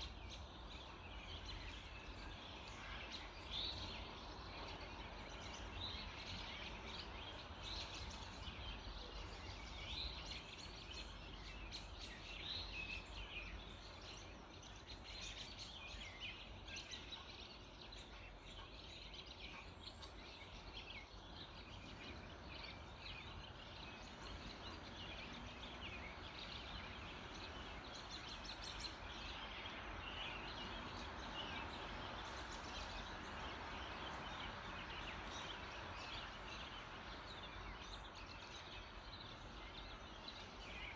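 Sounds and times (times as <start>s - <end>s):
background hiss: 0.0s - 40.9s
small birds chirping: 0.0s - 40.9s.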